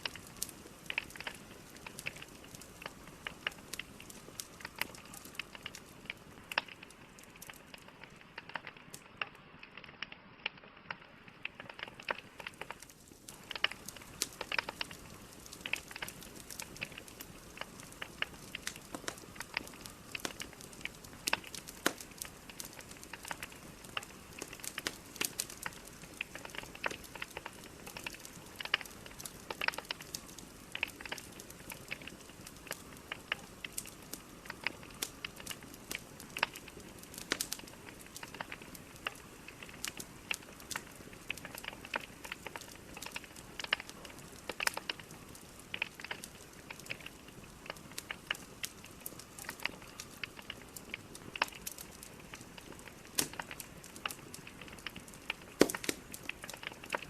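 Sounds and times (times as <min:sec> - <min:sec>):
logs crackling and popping: 0:00.0 - 0:57.0
soft hiss of flame: 0:00.0 - 0:57.0.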